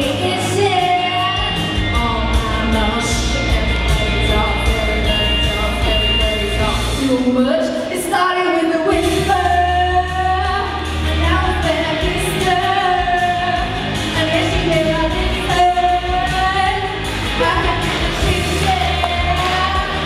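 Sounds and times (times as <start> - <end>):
backing music with bass: 0.0 - 7.7, 8.9 - 20.0
woman singing into a microphone: 0.0 - 20.0.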